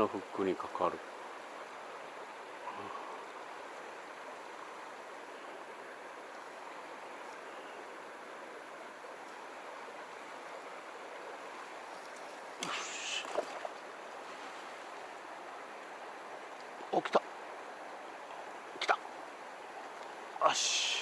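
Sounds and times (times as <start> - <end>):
mountain stream flowing: 0.0 - 21.0.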